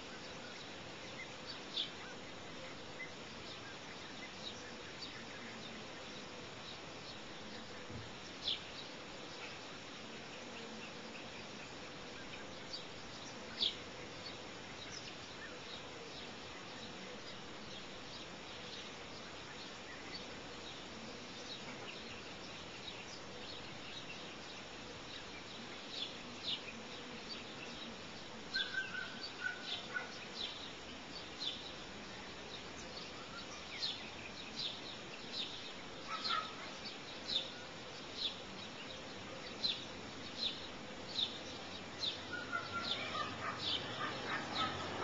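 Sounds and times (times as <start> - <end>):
bird chirping: 0.0 - 45.0.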